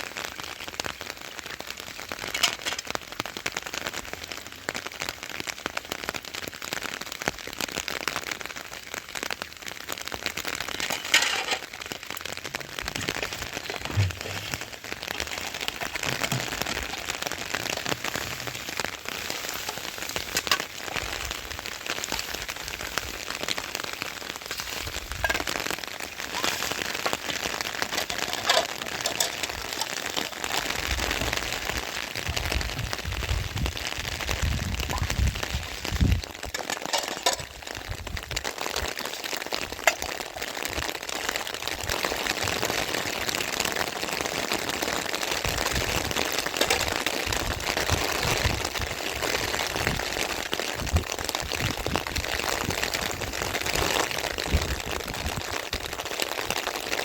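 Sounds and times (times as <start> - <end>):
raindrops clicking close by: 0.0 - 57.0
steady rain falling: 0.0 - 57.0.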